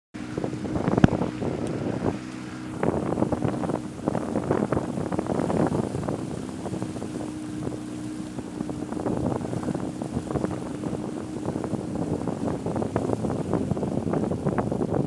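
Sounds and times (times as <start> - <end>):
water splashing against hull: 0.2 - 15.0
wind on microphone: 0.2 - 15.0.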